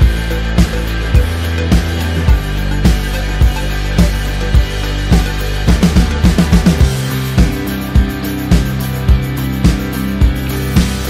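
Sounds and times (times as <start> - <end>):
held bass notes: 0.0 - 11.0
steady drum beat: 0.0 - 11.0.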